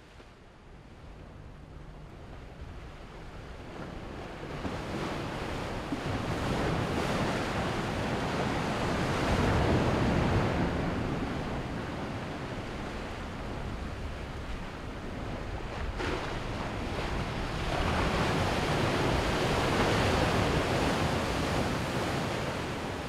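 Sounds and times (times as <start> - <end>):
ocean waves washing: 1.4 - 23.0.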